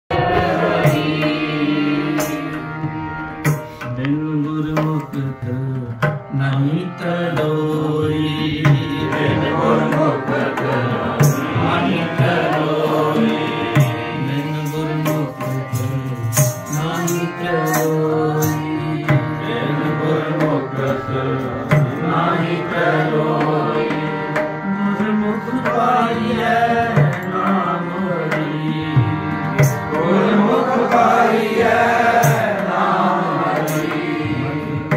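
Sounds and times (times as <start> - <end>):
harmonium chords: 0.1 - 34.9
tabla drumming: 0.1 - 34.9.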